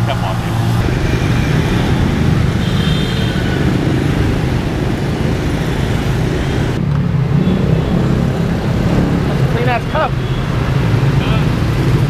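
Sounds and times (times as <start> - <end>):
motorbike engines rumbling: 0.0 - 12.0.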